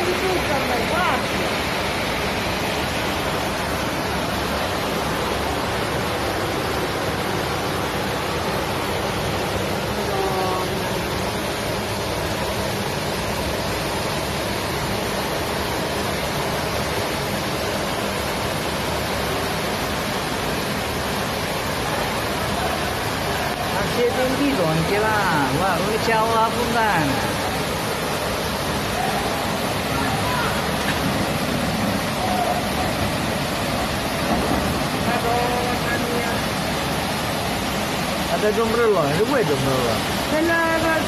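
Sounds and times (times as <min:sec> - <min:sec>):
floodwater rushing: 0:00.0 - 0:41.0.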